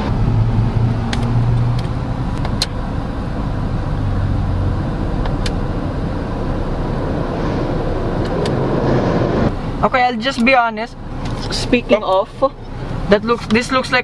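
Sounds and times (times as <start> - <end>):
car engine idling in cabin: 0.0 - 7.2, 9.5 - 14.0.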